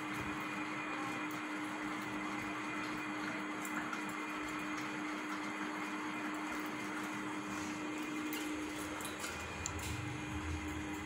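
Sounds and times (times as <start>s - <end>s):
steady appliance hum with hiss: 0.0s - 11.0s.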